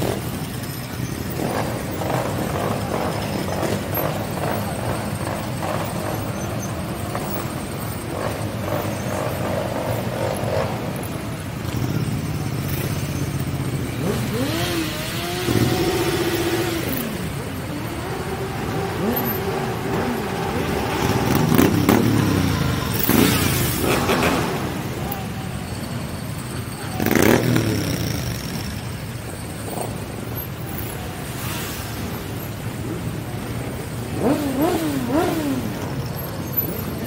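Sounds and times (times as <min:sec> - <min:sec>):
motorcycle engines passing: 0:00.0 - 0:37.0
motorcycles revving: 0:00.0 - 0:37.0.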